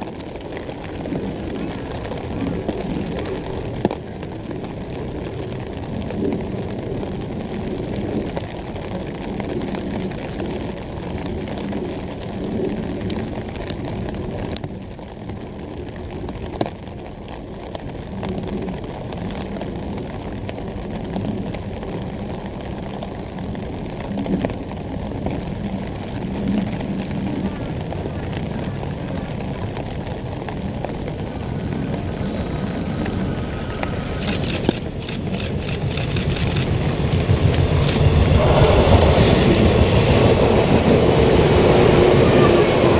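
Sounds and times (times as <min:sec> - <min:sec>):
low outdoor rumble: 0:00.0 - 0:42.9.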